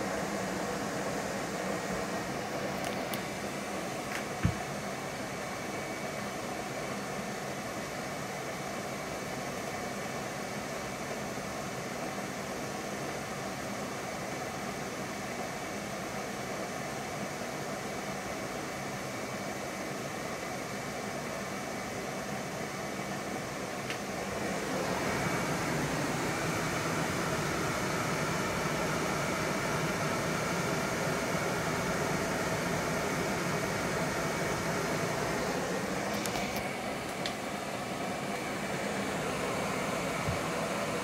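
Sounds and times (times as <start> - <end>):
furnace blower fan running: 0.0 - 41.0.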